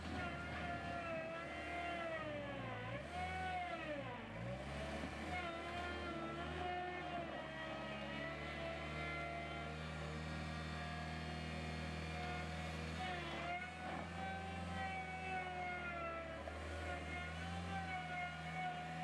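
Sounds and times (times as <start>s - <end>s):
loader engine under varying load: 0.0s - 19.0s.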